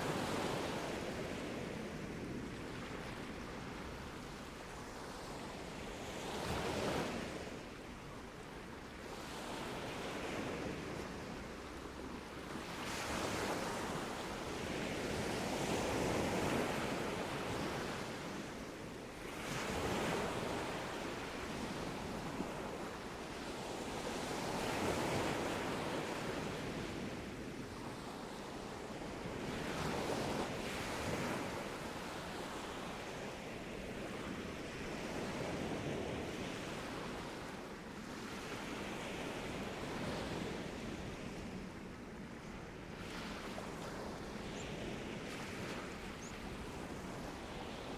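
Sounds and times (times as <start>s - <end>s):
sea waves breaking on a beach: 0.0s - 47.9s.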